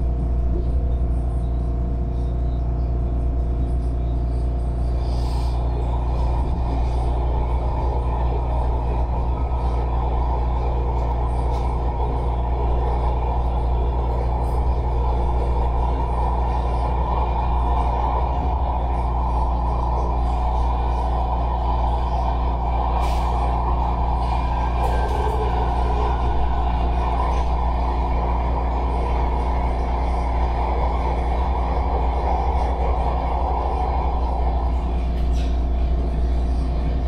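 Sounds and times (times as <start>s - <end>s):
train rumble from inside car: 0.0s - 37.0s
steady tones: 5.6s - 37.0s.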